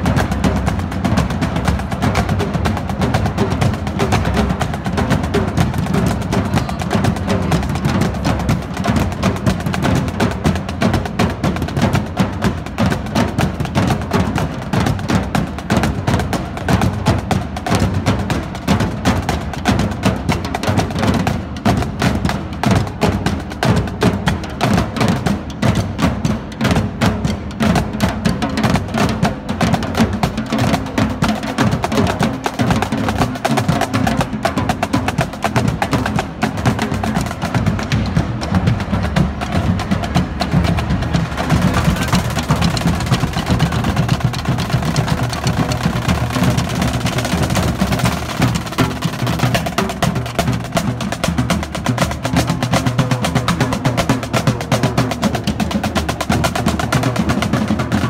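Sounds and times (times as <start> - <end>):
marching snare drums: 0.0 - 58.0.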